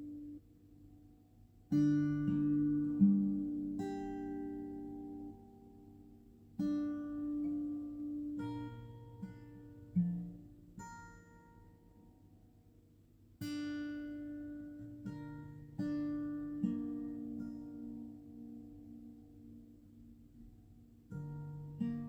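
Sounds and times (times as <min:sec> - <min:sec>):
slow acoustic guitar: 0:00.0 - 0:22.0.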